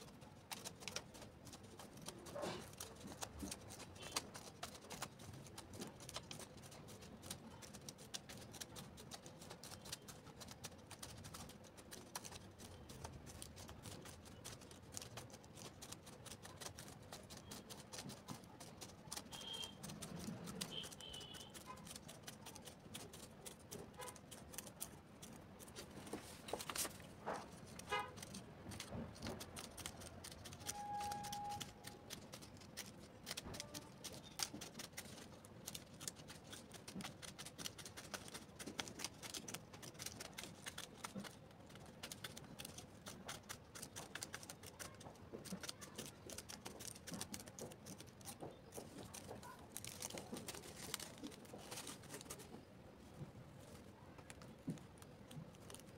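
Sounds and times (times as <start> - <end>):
faint clicks and taps: 0.1 - 55.9.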